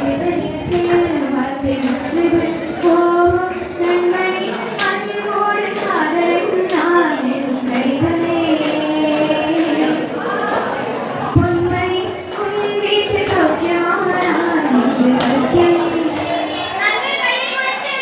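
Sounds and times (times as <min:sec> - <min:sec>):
young voice singing: 0:00.0 - 0:18.0
hands clapping a beat: 0:00.3 - 0:16.7.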